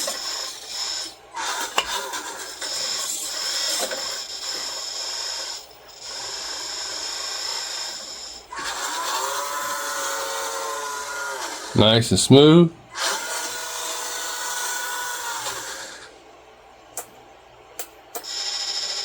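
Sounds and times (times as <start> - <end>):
hydraulic pump high whine: 0.0 - 12.1, 12.9 - 16.2, 18.1 - 19.0.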